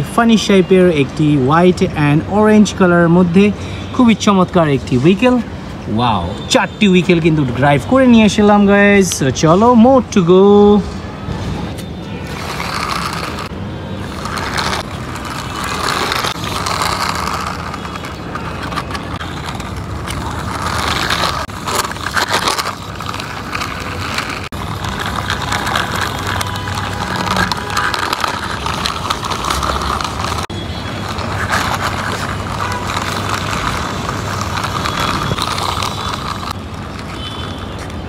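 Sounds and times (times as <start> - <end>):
plastic wheels grinding on concrete: 0.0 - 5.4, 12.2 - 37.8.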